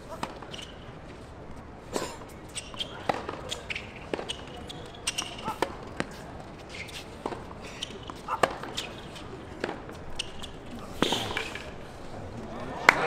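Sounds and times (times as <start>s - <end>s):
tennis ball bouncing: 0.1s - 0.9s, 2.2s - 12.0s
racquets striking tennis ball: 0.1s - 12.1s.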